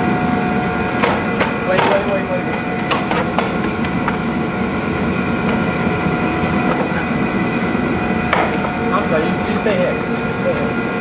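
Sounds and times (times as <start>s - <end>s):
mechanical drone: 0.0s - 11.0s.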